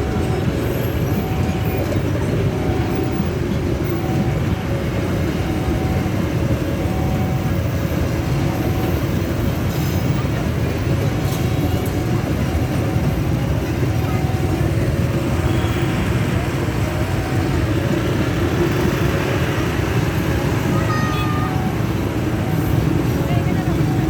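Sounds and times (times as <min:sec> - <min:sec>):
crossing warning tone: 0:00.0 - 0:24.0
train rumbling past: 0:00.0 - 0:24.0.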